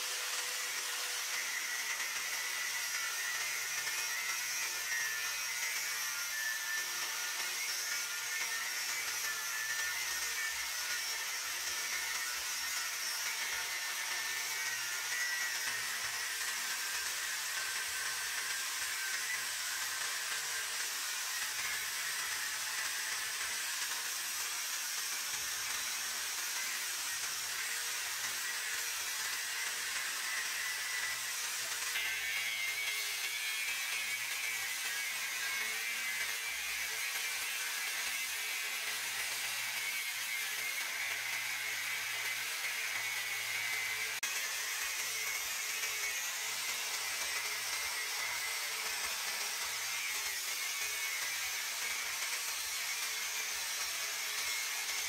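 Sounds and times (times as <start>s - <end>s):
angle grinder cutting steel pipe: 0.0s - 55.0s.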